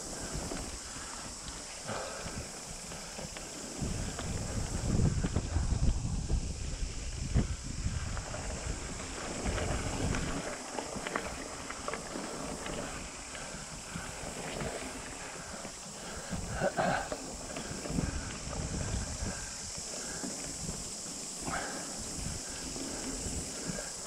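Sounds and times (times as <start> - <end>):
bike tyres on dirt: 0.0 - 24.0
wind on microphone: 0.0 - 24.0.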